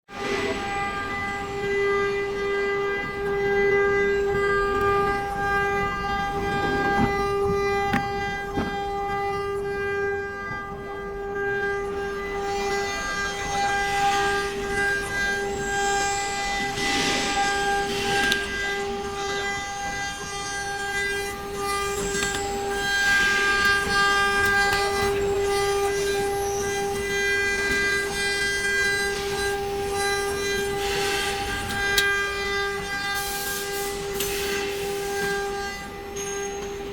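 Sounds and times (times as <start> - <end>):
router spindle whine: 0.1 - 36.9.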